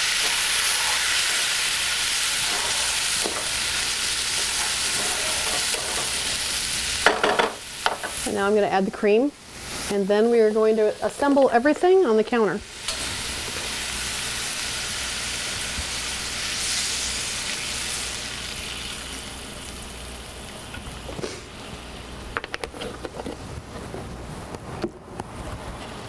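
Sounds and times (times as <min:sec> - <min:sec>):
sauce sizzling in a skillet: 0:00.0 - 0:11.8, 0:12.7 - 0:22.3.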